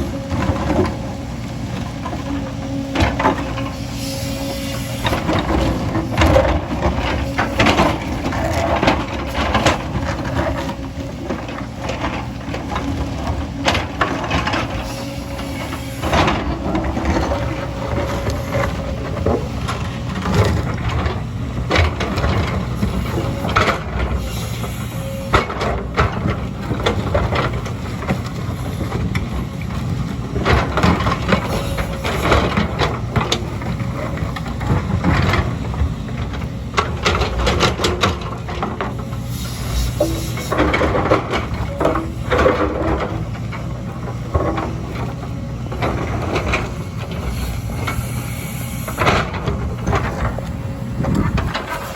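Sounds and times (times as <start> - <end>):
diesel engine under load: 0.0 - 51.9
metal scraping on earth and rock: 0.0 - 51.9.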